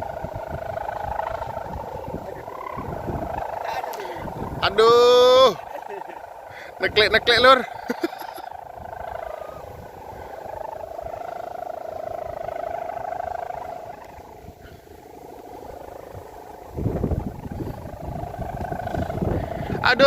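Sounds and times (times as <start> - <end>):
wavering hum: 0.0 - 20.0
wind buffeting microphone: 0.0 - 20.0.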